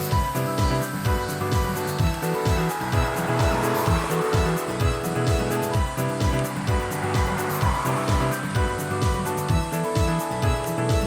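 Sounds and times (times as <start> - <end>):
background music with kick drums: 0.0 - 11.0.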